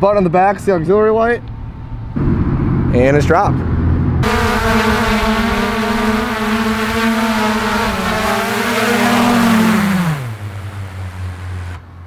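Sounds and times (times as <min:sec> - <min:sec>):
drone propellers whining: 0:02.0 - 0:11.8.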